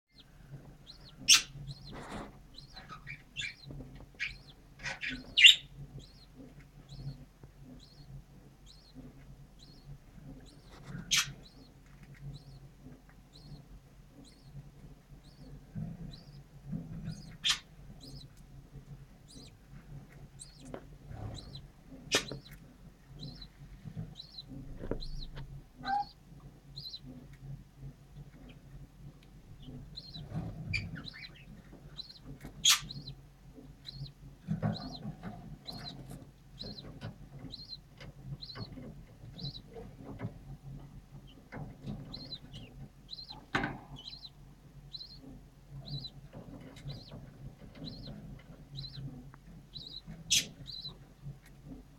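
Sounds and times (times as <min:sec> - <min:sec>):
budgerigars peeping: 0:00.1 - 0:51.9.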